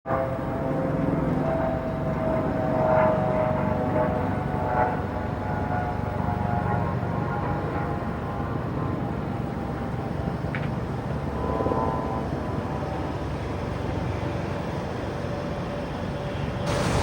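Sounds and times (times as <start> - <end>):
distant engine rumble: 1.0 - 17.0.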